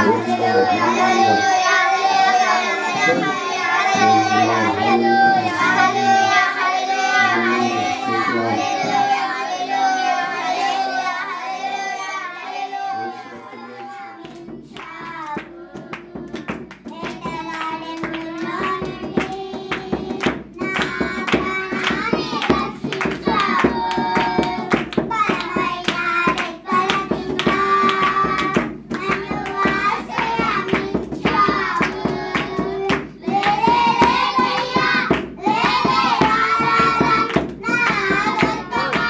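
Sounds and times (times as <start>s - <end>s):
hands clapping to a beat: 0.0s - 10.8s, 13.0s - 39.0s
children singing: 0.0s - 39.0s.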